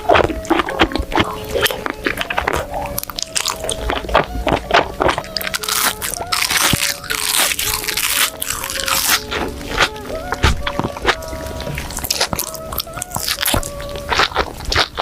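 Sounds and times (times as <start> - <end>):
background music: 0.0 - 15.0
crunchy food being chewed: 0.0 - 15.0.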